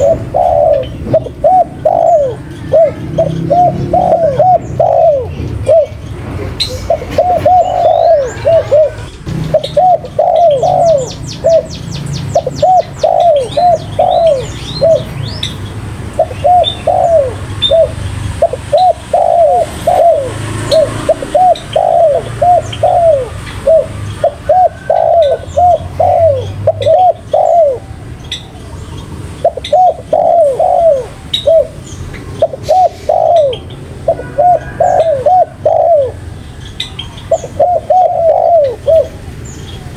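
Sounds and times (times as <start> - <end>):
dove cooing: 0.0 - 39.5
small birds chirping: 0.0 - 39.9.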